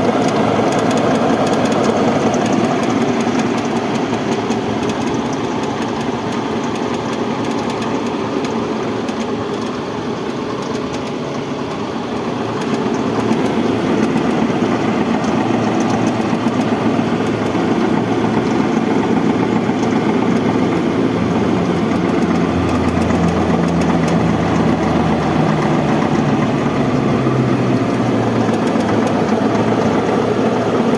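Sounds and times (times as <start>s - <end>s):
minibus engine idling: 0.0s - 30.9s
radiator fan motor running: 0.0s - 30.9s.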